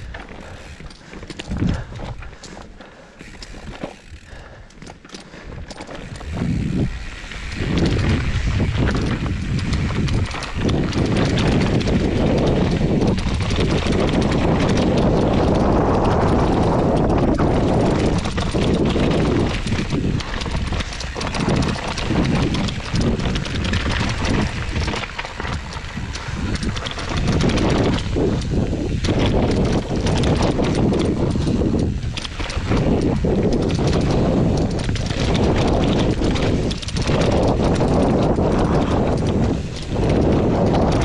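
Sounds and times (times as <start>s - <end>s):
wind on microphone: 0.0s - 4.6s, 5.3s - 41.0s
bike rattling: 0.0s - 41.0s
tyres rolling over stones: 0.0s - 41.0s.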